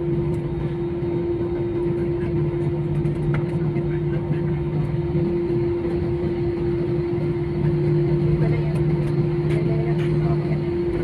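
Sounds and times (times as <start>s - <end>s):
airliner engines droning in cabin: 0.0s - 11.0s.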